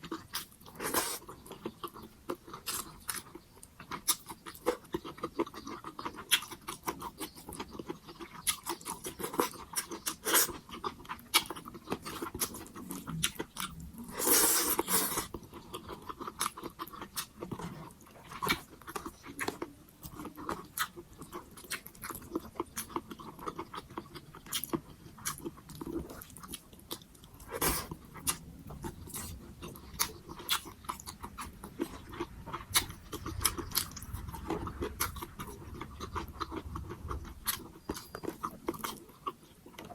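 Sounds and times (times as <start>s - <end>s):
wet chewing and lip-smacking: 0.0s - 39.9s.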